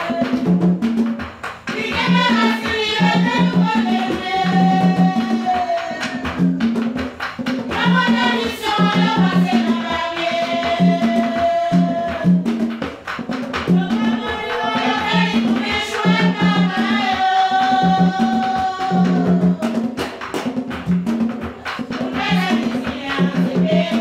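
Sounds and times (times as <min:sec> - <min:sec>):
women singing: 0:00.0 - 0:00.8, 0:01.7 - 0:06.9, 0:07.6 - 0:12.7, 0:13.6 - 0:20.5, 0:21.2 - 0:24.0.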